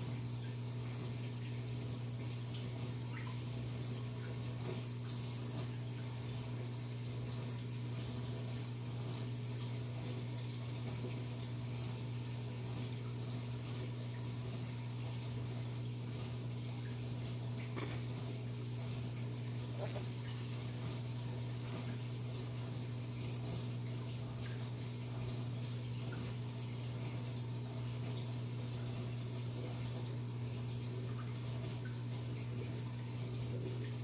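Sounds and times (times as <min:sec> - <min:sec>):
faint water drips: 0:00.0 - 0:34.0
low pump hum: 0:00.0 - 0:34.0.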